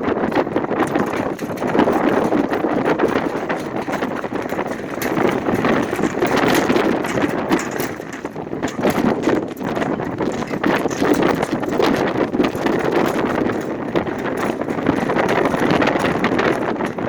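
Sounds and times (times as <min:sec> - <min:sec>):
gusting wind: 0:00.0 - 0:17.0
sign rattling and knocking: 0:00.0 - 0:17.0.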